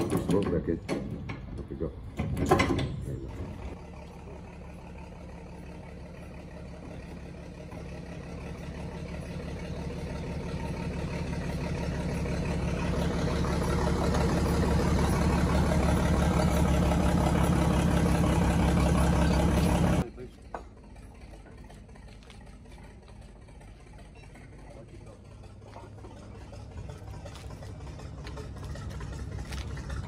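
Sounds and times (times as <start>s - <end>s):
crane diesel engine running: 0.0s - 30.0s.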